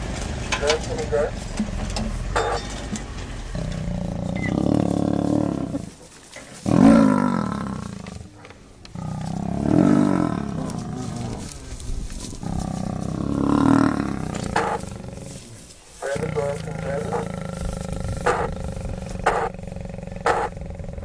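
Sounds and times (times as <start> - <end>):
wild animals growling: 3.3 - 21.0.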